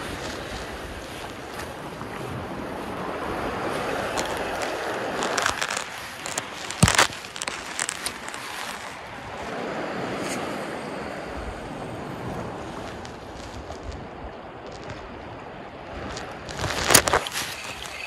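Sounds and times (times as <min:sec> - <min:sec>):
wind and sea noise: 0:00.0 - 0:18.0.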